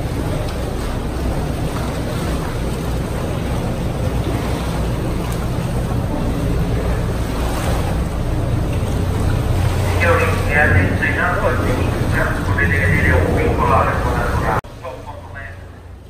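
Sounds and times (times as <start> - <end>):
boat engine running: 0.0 - 16.0
water sloshing against hull: 0.0 - 16.0.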